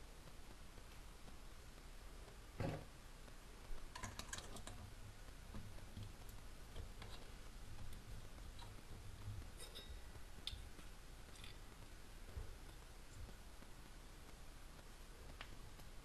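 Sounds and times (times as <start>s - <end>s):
faint clicks and taps: 0.2s - 16.0s.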